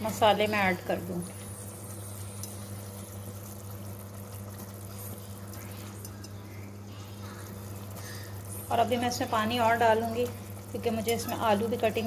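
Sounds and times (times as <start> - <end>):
sauce bubbling in a pot: 0.0 - 12.0
steady low hum: 0.0 - 12.0.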